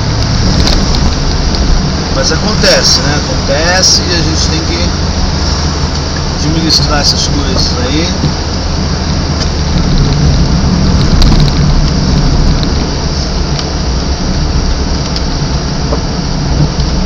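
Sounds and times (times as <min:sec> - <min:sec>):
car engine and tyre rumble: 0:00.0 - 0:17.0
rain hissing on car body: 0:00.0 - 0:17.0
wet road noise: 0:00.0 - 0:17.0.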